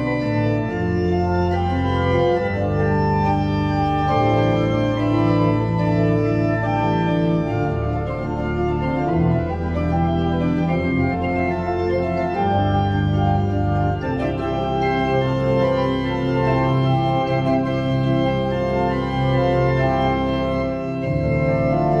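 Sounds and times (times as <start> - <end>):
pipe organ chords: 0.0 - 22.0.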